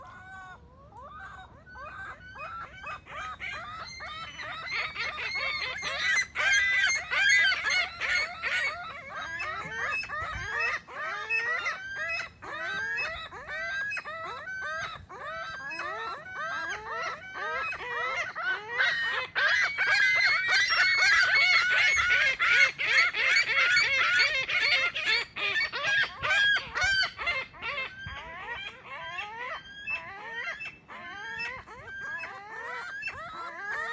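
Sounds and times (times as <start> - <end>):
gulls squawking: 0.0 - 33.9.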